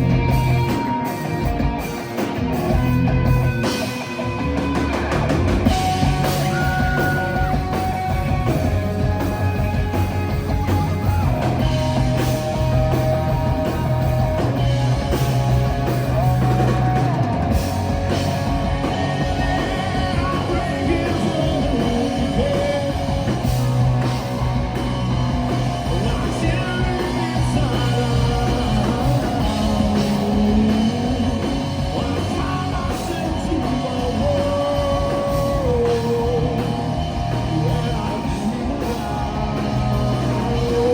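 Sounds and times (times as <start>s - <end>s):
bass guitar: 0.0s - 40.9s
drums: 0.0s - 40.9s
electric guitar: 0.0s - 40.9s.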